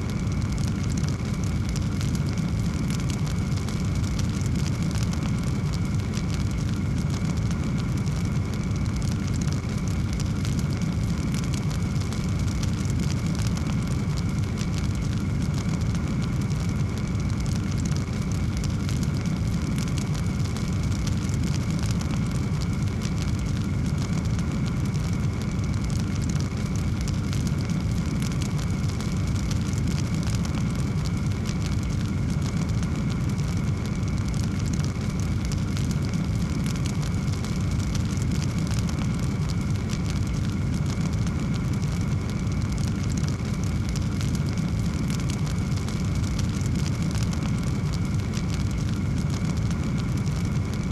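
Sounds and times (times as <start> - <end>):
fire low roar: 0.0 - 50.9
wood fire crackling and popping: 0.0 - 50.9.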